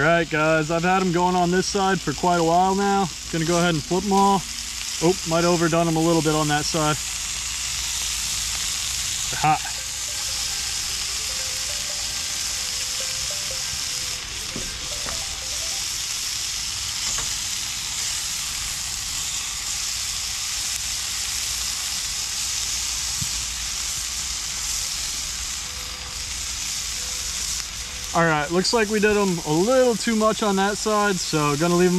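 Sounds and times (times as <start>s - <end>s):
fish sizzling in oil: 0.0s - 31.9s.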